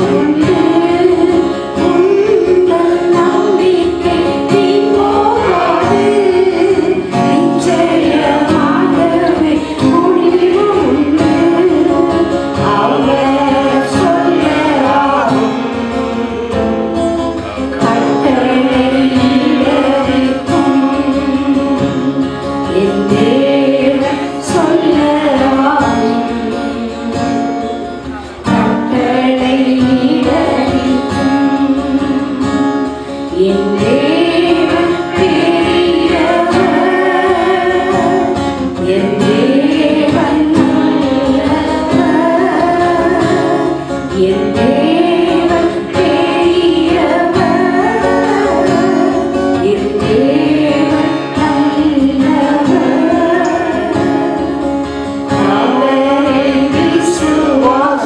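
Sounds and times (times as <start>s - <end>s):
plucked string accompaniment: 0.0s - 58.0s
woman singing into a microphone: 0.0s - 58.0s.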